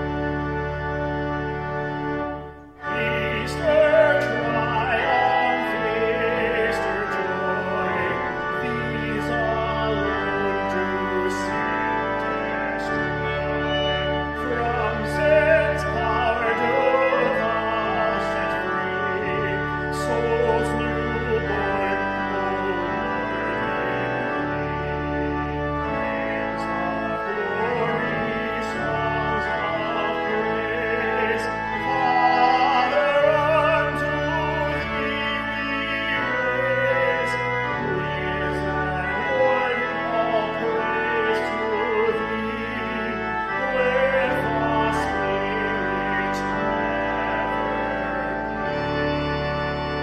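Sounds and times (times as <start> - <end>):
organ chords: 0.0 - 50.0
man singing a hymn: 2.7 - 50.0.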